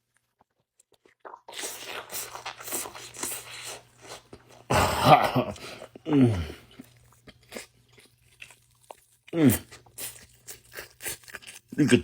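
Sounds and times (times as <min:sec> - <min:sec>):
sandwich crunching being chewed: 0:00.0 - 0:04.7, 0:05.4 - 0:12.0.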